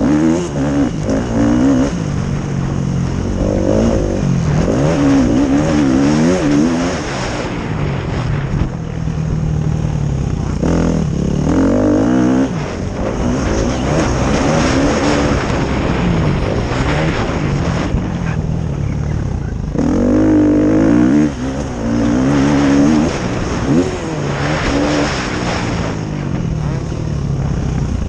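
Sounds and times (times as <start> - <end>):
motocross motorcycles revving: 0.0 - 28.0.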